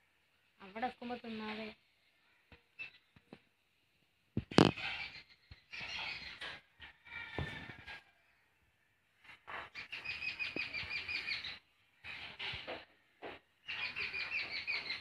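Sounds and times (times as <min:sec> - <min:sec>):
bird chirping: 0:01.2 - 0:03.5, 0:04.4 - 0:08.6, 0:09.2 - 0:15.0.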